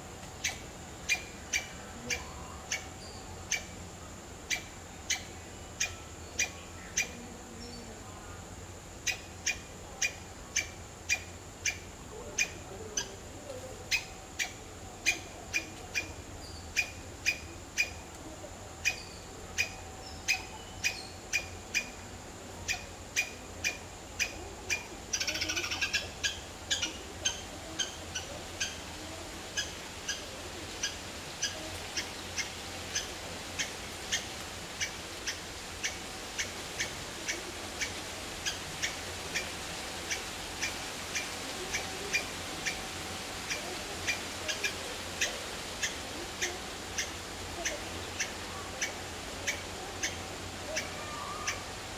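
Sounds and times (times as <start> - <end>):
bird twittering: 0.4 - 3.7, 4.5 - 7.8, 9.0 - 13.1, 13.8 - 18.0, 18.8 - 22.0, 22.6 - 28.8, 29.6 - 39.5, 43.5 - 51.6.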